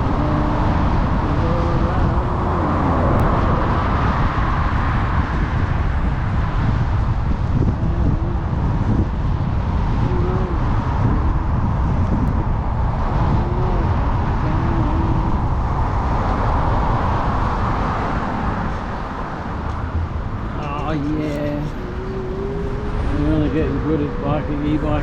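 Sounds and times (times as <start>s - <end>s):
wind rumble on microphone: 0.0s - 25.0s.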